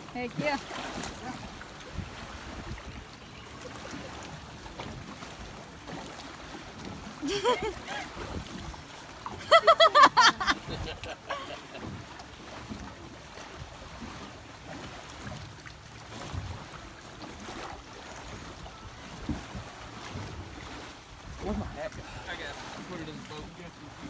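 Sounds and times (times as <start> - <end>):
water sloshing and splashing: 0.0 - 24.0.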